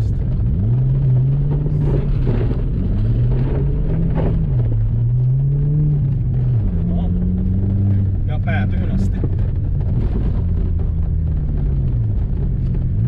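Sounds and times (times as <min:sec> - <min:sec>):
car engine: 0:00.0 - 0:13.0
tyre and road noise: 0:00.0 - 0:13.0.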